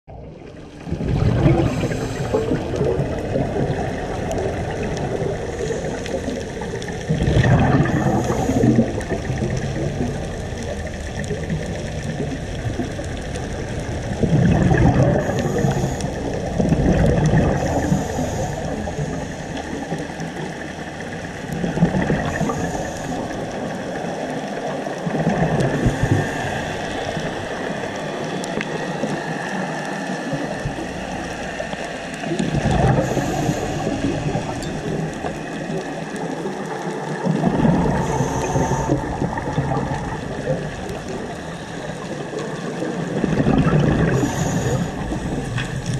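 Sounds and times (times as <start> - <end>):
diver exhaling bubbles: 0.1 - 45.9
steady underwater hiss: 0.1 - 45.9.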